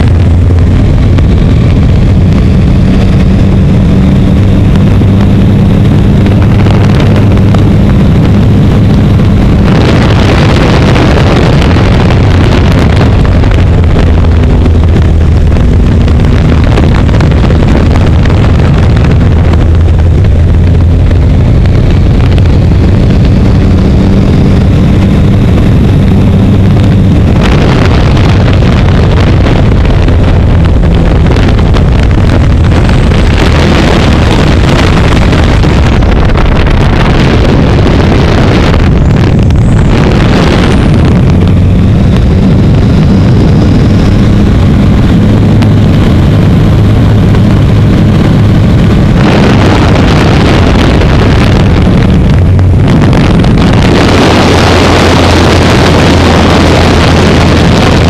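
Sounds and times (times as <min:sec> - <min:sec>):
propeller engine droning: 0:00.0 - 0:58.0
wind rush over microphone: 0:00.0 - 0:58.0.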